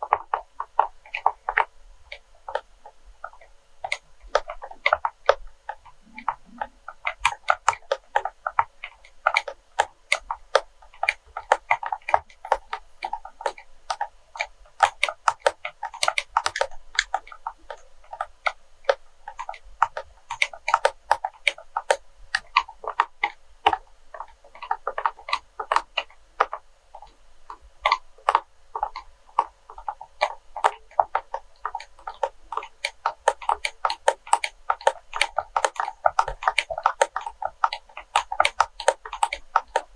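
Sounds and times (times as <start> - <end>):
tapping and clicking on wax: 0.0 - 39.9.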